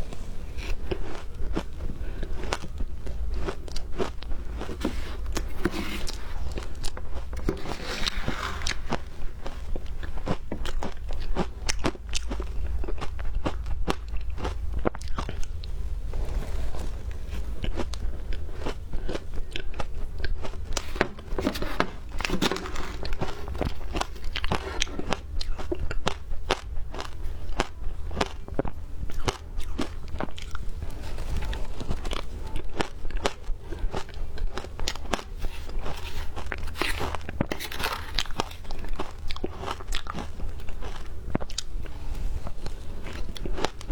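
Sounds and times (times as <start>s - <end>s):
ice being chewed and crunched: 0.0s - 43.9s.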